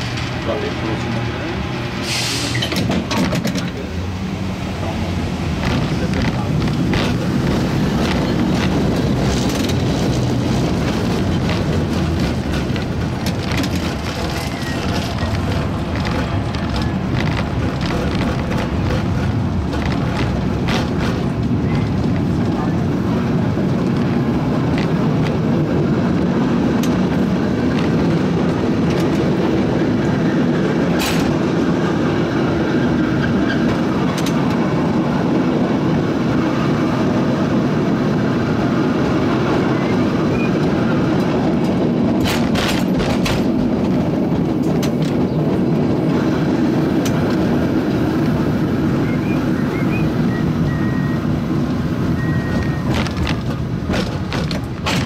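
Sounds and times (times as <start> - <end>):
cable car rumble and rattle: 0.0 - 55.0.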